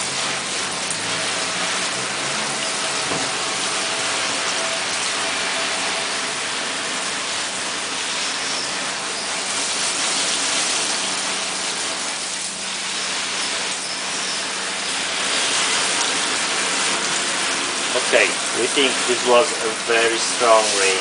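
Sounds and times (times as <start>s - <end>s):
water jet drumming on plastic: 0.0s - 21.0s
water splashing on tiles: 0.0s - 21.0s.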